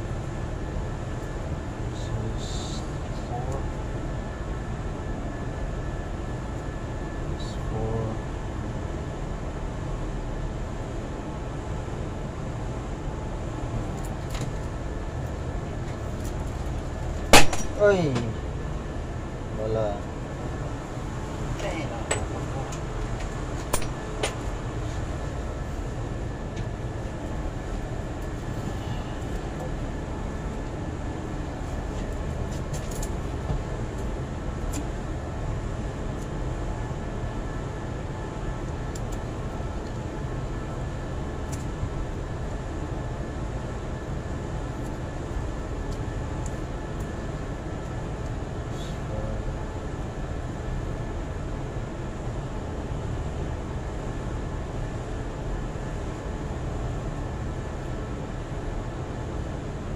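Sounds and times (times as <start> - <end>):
faint steady whine: 0.0 - 59.9
low machinery rumble: 0.0 - 59.9.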